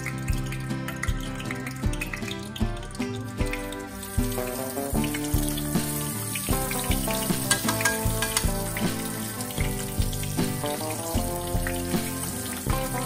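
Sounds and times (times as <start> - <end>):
background music with steady beat: 0.0 - 13.0
food sizzling in hot oil: 0.0 - 13.0.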